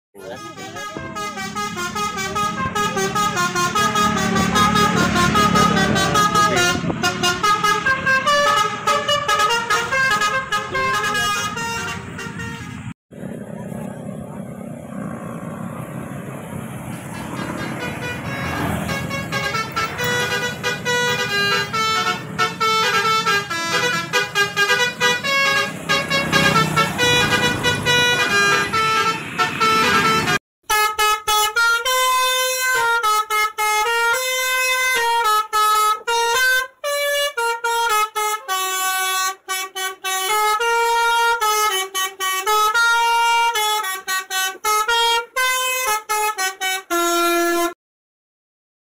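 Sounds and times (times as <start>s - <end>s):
musical vehicle horn tune: 0.2s - 13.0s, 16.8s - 47.8s
traffic noise: 0.2s - 47.8s.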